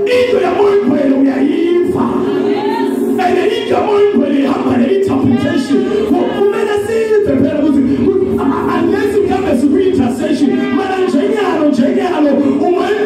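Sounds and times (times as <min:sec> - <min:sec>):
man singing into a microphone: 0:00.0 - 0:02.3, 0:03.1 - 0:13.0
voices singing along: 0:00.0 - 0:13.0.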